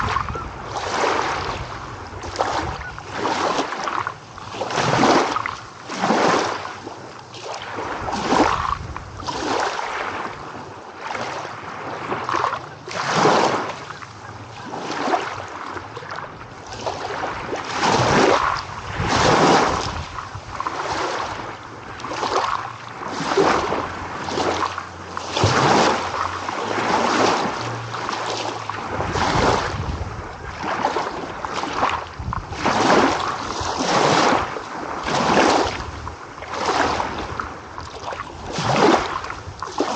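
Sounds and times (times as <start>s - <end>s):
small ocean waves washing in: 0.0s - 39.9s.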